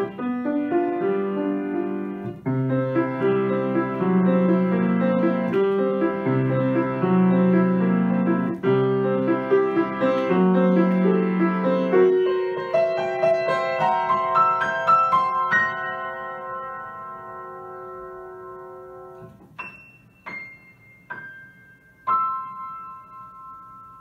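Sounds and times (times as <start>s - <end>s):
grand piano playing: 0.0s - 24.0s.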